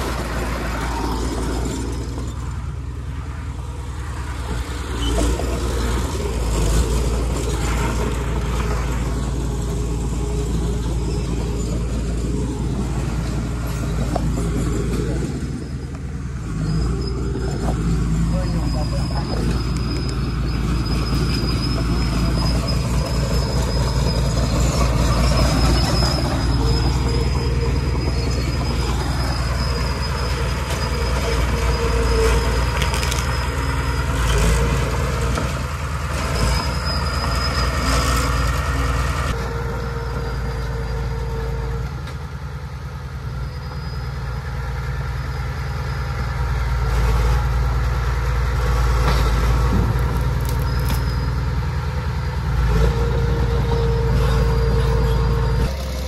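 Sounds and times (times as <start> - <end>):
bulldozer diesel engine running: 0.0 - 56.0
steel tracks squealing: 0.0 - 56.0.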